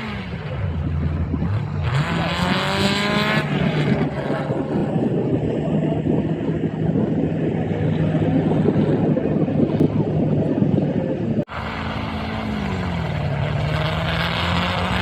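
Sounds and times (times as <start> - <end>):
engine running at steady revs: 0.0 - 15.0.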